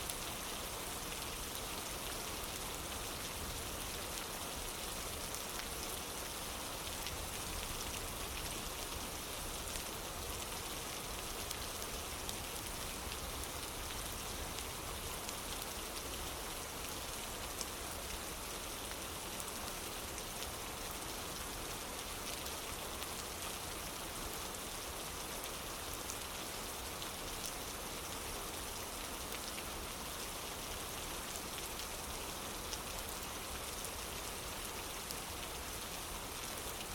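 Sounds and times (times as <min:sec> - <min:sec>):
rain on a wooden porch: 0:00.0 - 0:36.9.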